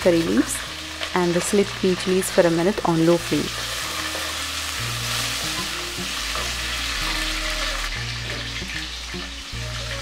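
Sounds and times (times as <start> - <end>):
chilies sizzling in hot oil: 0.0 - 10.0
soft background music: 0.0 - 10.0.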